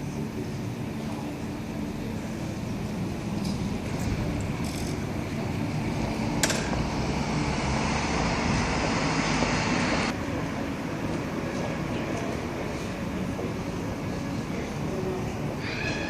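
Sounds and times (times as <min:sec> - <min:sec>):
car engines running: 0:00.0 - 0:15.6
tyre and road noise: 0:02.0 - 0:16.0.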